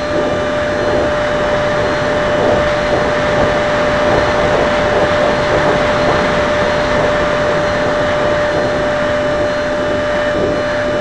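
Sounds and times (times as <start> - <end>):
constant whining tone: 0.0 - 11.0
model jet fan rushing: 0.0 - 11.0.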